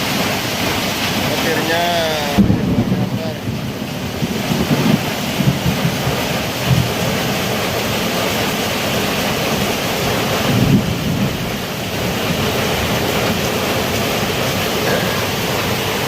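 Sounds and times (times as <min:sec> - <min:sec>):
heavy rain pouring: 0:00.0 - 0:16.0
low rumbles: 0:00.0 - 0:16.0.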